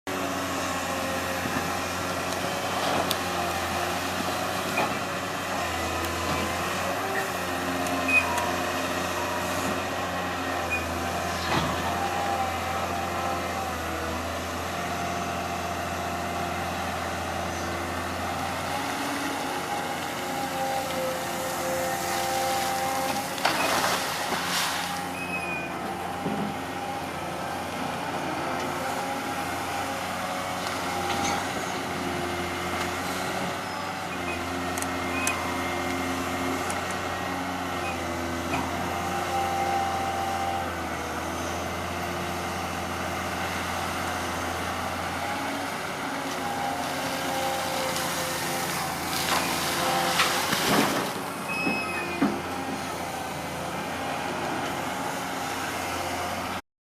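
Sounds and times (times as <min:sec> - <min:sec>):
excavator engine and hydraulics droning: 0:00.1 - 0:56.6.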